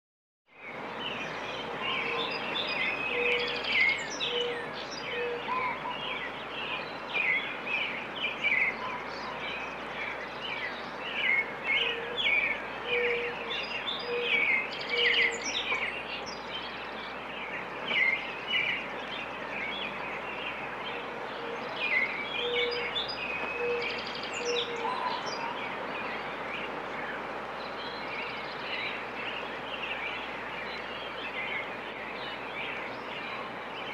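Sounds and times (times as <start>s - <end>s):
songbirds chirping and trilling: 0.5s - 33.9s
steady background hiss: 0.5s - 33.9s
low bird call: 0.7s - 33.9s.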